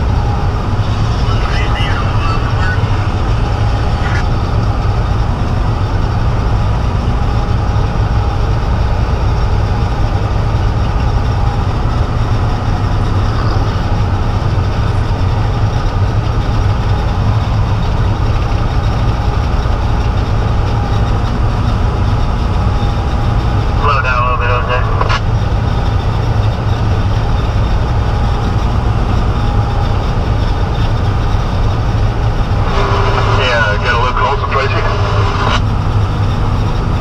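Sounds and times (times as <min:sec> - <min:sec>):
truck diesel engine droning: 0:00.0 - 0:37.0.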